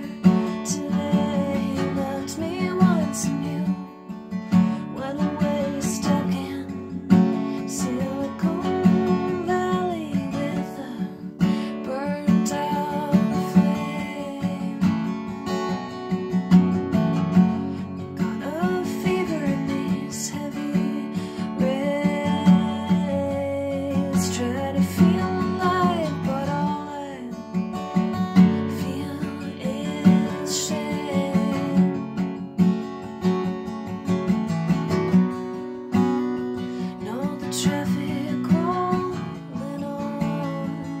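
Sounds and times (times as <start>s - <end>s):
woman singing: 0.0s - 15.8s, 17.3s - 32.5s, 36.2s - 41.0s
acoustic guitar strumming: 0.0s - 41.0s.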